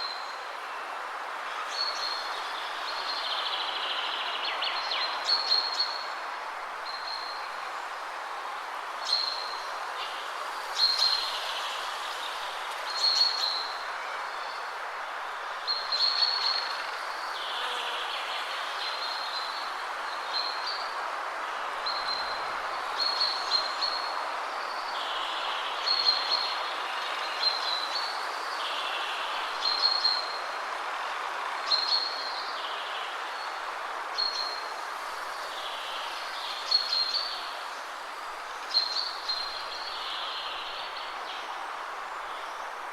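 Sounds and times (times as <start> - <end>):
wind rushing through trees: 0.0 - 42.9.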